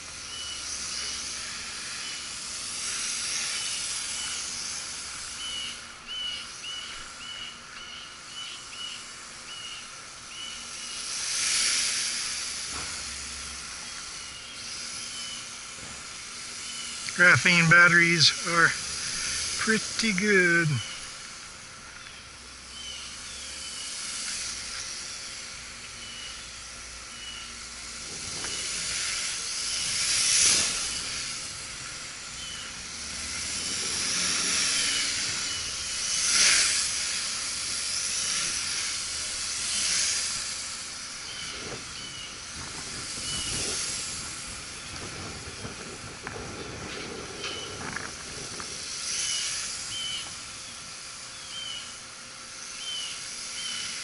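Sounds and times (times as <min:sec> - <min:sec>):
drone propellers whirring: 0:00.0 - 0:54.0.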